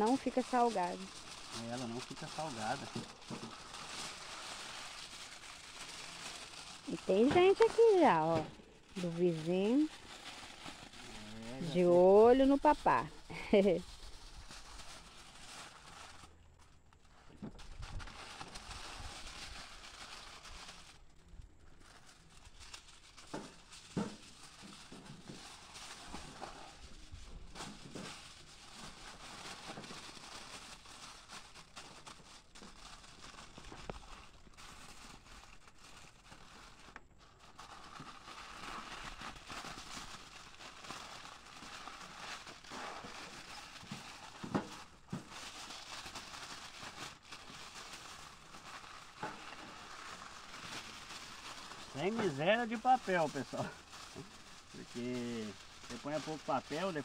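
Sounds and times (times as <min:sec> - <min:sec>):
aluminium foil crinkling: 0:00.0 - 0:57.0.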